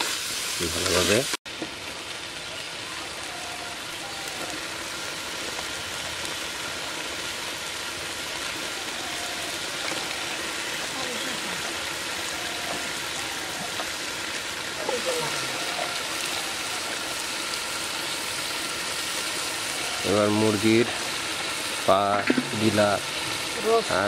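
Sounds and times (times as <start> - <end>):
paste sizzling in oil: 0.0 - 24.0.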